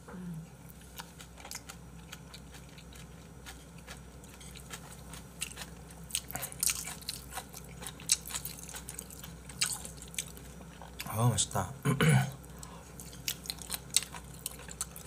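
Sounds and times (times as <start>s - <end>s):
chewing and biting food: 0.7s - 11.1s, 12.5s - 15.0s.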